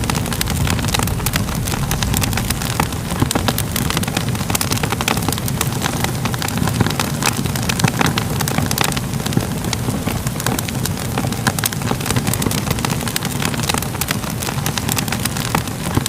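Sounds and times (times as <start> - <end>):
fire popping and snapping: 0.0 - 16.0
wood fire crackling: 0.0 - 16.0.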